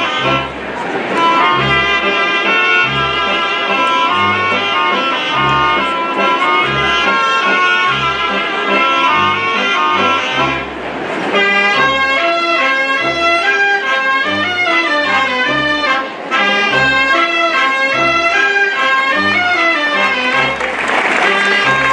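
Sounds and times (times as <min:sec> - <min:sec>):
brass band playing dance tune: 0:00.0 - 0:21.9.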